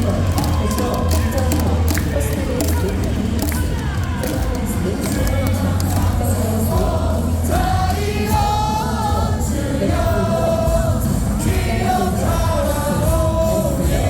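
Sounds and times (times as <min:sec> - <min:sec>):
loud backing music: 0:00.0 - 0:14.0
stadium crowd singing: 0:00.0 - 0:14.0.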